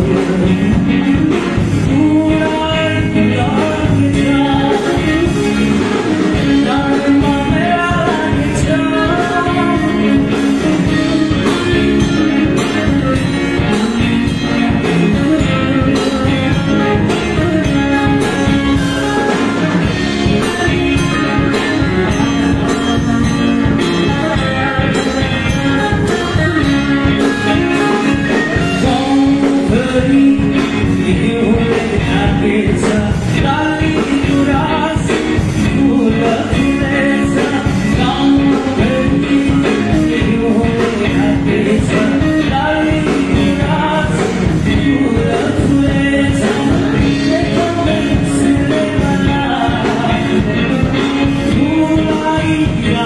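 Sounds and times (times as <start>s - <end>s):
drum kit: 0.0s - 53.0s
electric guitars: 0.0s - 53.0s
person singing: 0.0s - 53.0s.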